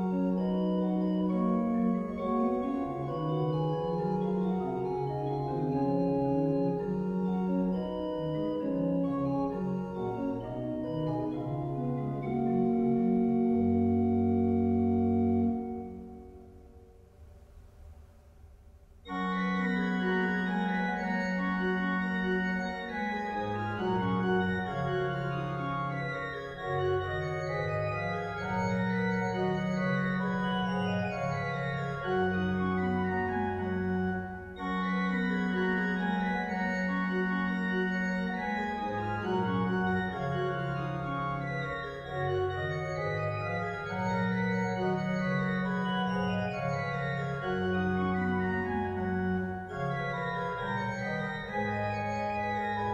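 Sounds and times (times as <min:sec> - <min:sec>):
pipe organ playing: 0:00.0 - 0:16.7, 0:19.0 - 0:52.9.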